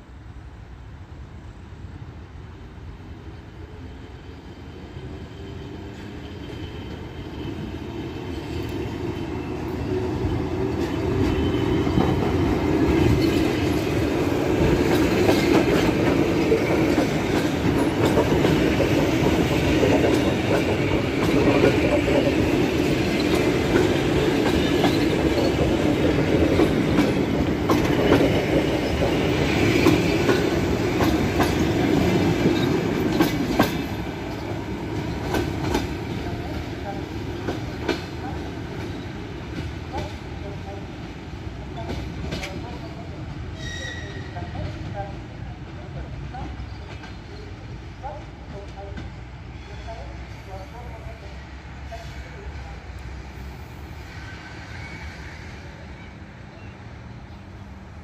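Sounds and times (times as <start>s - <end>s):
electric train passing: 0.0s - 58.0s.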